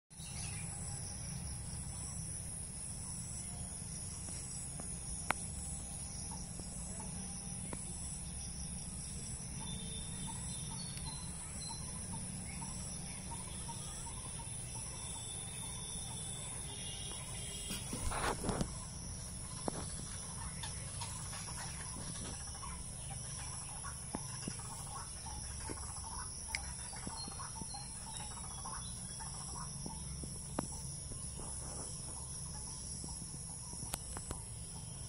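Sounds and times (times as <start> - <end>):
high-pitched insect drone: 0.2 - 35.0.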